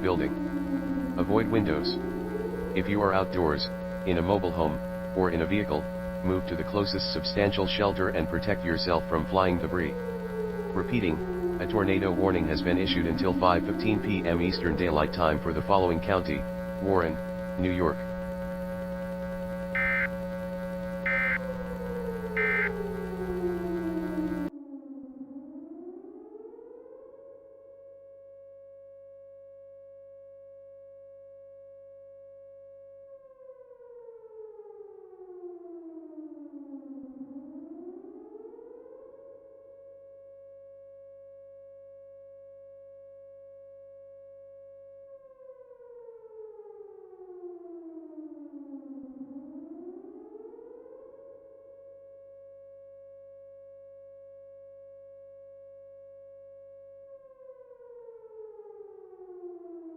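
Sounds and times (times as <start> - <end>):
outdoor warning siren: 0.0 - 59.9.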